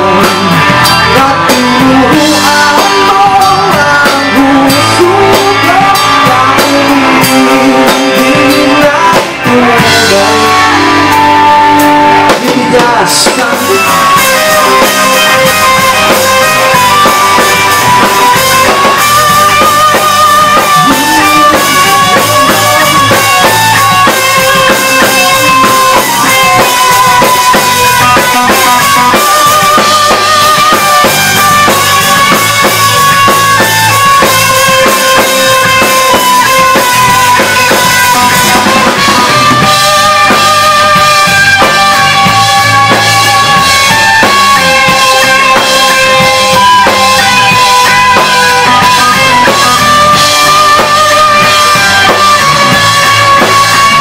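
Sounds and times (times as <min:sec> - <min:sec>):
drum kit beat: 0:00.0 - 0:54.0
electric guitar: 0:00.0 - 0:54.0.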